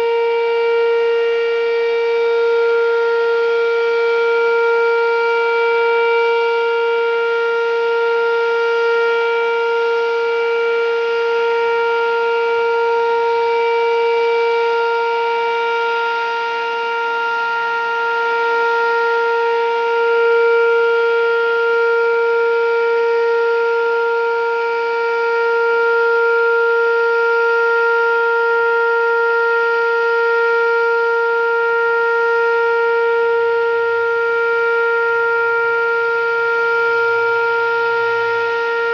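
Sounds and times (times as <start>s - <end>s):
steady siren tone: 0.0s - 38.9s.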